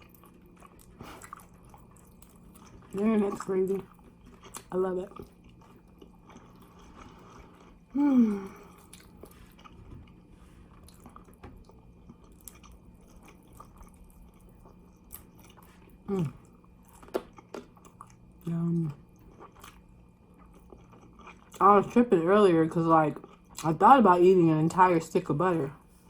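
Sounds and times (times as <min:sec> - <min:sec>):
chewing fried chicken: 0:00.0 - 0:24.1.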